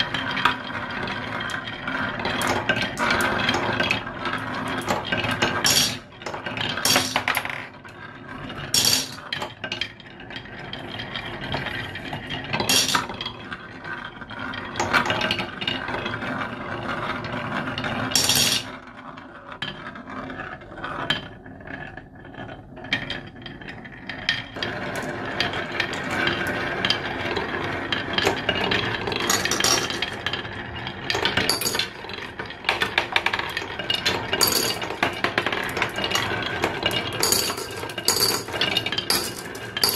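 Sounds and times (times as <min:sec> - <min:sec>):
marbles clacking on groove walls: 0:00.0 - 0:39.9
marbles rolling on wood: 0:00.0 - 0:39.9.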